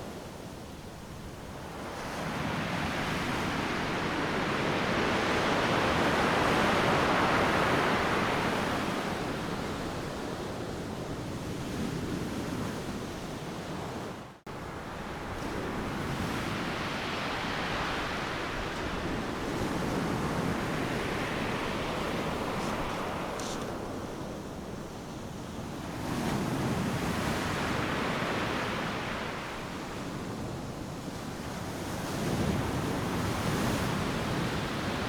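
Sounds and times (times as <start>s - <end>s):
ocean waves crashing on a beach: 0.8s - 35.0s.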